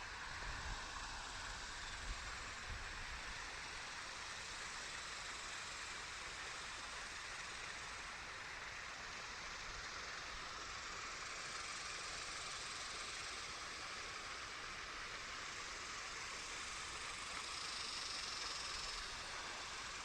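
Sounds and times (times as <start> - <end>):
creek water running over a spill: 0.0 - 20.0.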